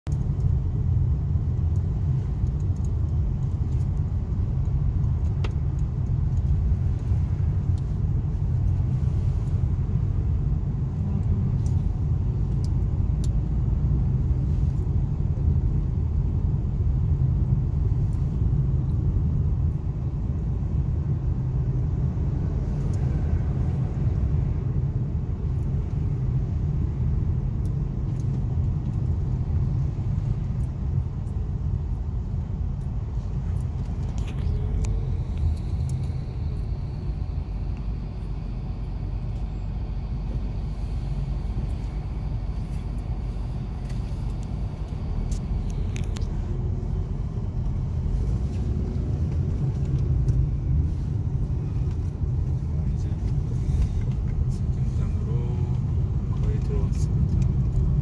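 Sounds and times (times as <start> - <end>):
car cabin engine and road rumble: 0.0 - 58.0.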